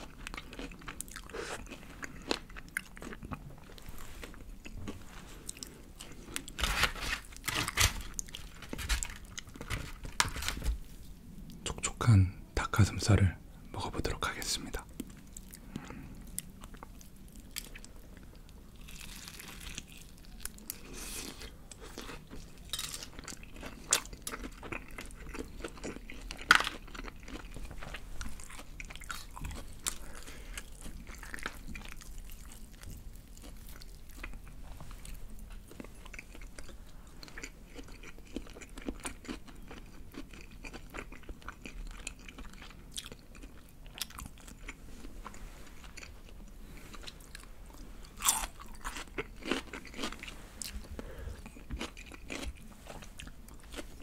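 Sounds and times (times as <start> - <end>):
crunching and chewing food: 0.0 - 11.8, 14.2 - 54.0.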